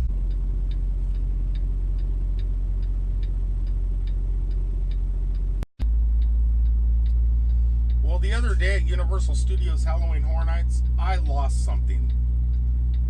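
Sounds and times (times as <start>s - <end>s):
road noise: 0.0s - 13.0s
turn signal clicking: 0.0s - 13.0s
vehicle engine drone: 0.0s - 13.0s.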